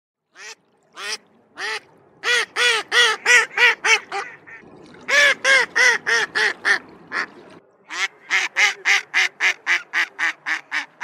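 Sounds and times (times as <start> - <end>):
duck quacking: 0.4 - 7.3, 7.9 - 11.0.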